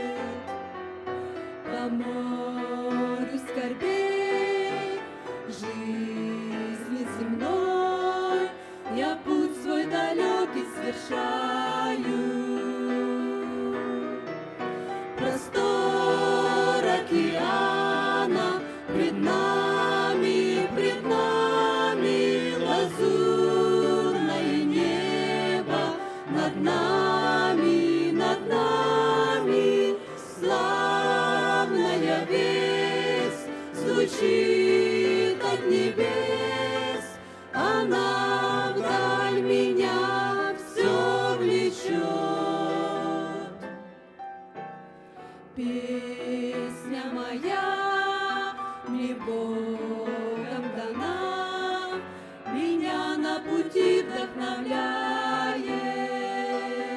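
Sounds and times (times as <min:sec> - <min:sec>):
mixed group singing a hymn: 0:00.0 - 0:43.8, 0:45.4 - 0:56.9.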